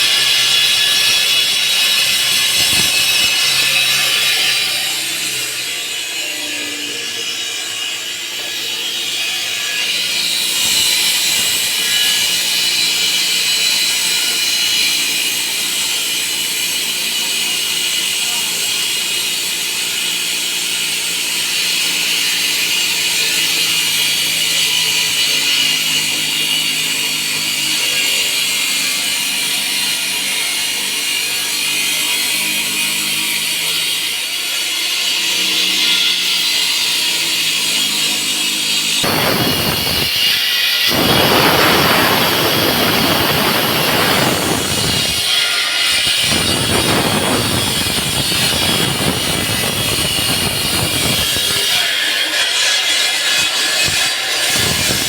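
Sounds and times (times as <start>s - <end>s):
power saw cutting concrete: 0.0s - 55.0s.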